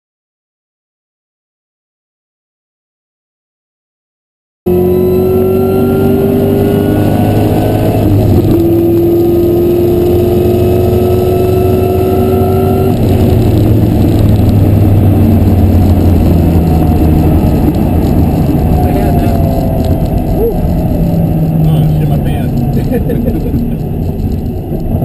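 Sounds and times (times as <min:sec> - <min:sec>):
car engine at full throttle: 0:04.7 - 0:25.0.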